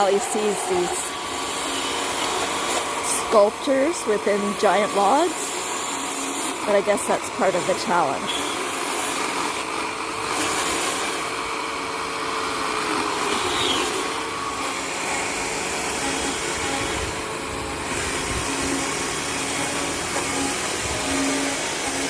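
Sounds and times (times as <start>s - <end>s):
chainsaw cutting log: 0.0s - 22.0s.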